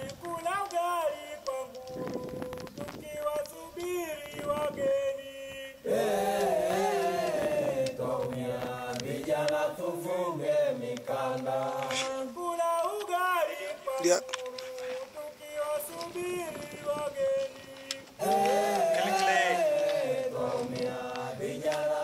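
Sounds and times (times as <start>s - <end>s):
group singing a chant: 0.0s - 22.0s.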